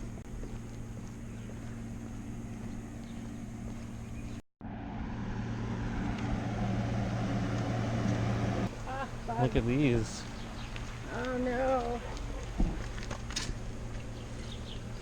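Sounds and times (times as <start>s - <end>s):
car approaching: 0.0s - 15.0s
traffic engine hum: 0.0s - 15.0s.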